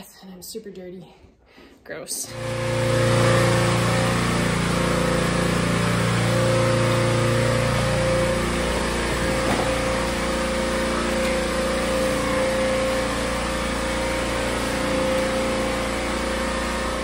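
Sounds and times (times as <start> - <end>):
pressure washer motor hum and whine: 2.2 - 17.0
water jet hissing on concrete: 2.3 - 17.0.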